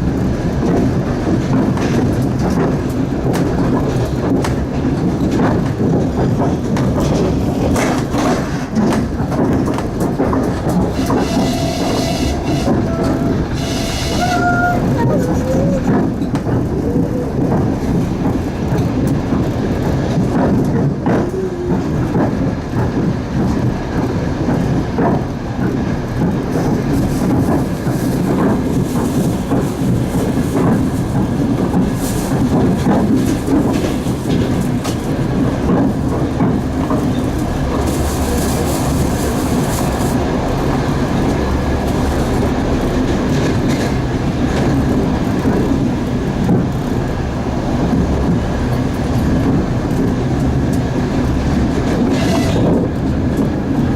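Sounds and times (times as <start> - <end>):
train wheels rumbling on rails: 0.0 - 53.9
wheels clacking over rail joints: 0.0 - 53.9.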